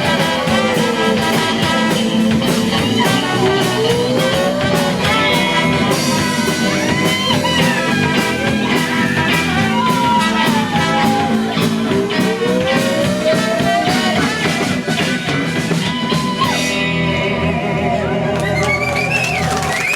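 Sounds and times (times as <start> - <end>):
guitar lead with bending notes: 0.0 - 18.7
bass guitar: 0.0 - 19.9
steady drums: 0.0 - 19.9.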